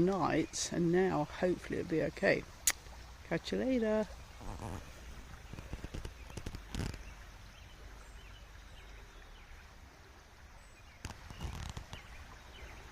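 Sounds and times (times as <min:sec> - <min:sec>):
creek rushing: 0:00.0 - 0:12.9.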